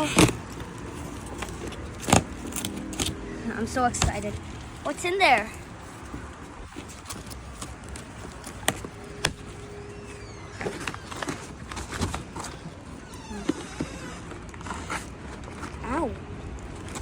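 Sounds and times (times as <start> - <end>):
cardboard scraping and rustling: 0.0 - 17.0.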